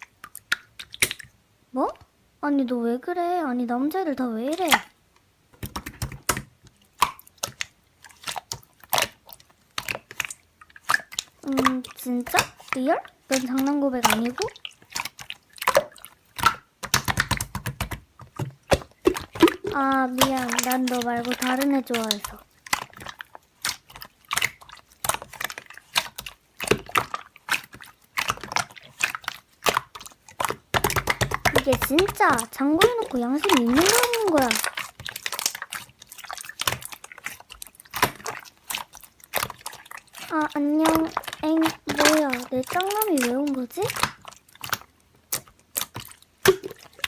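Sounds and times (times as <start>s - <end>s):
slime squeezed with sticky clicks: 5.6s - 47.0s.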